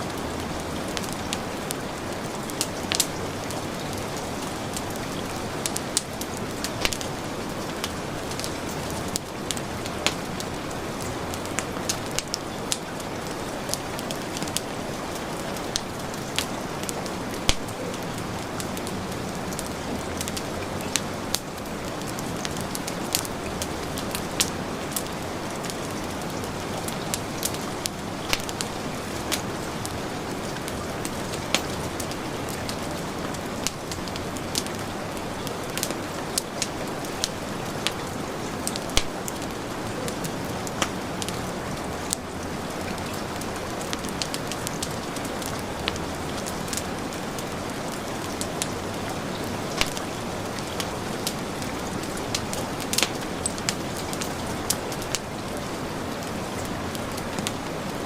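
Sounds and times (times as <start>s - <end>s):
heavy rain falling: 0.0s - 58.0s
wood fireplace crackling: 0.0s - 58.0s.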